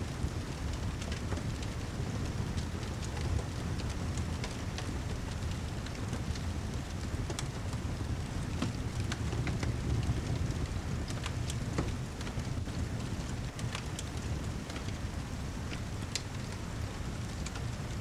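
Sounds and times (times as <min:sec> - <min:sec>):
fireplace crackling: 0:00.1 - 0:18.0.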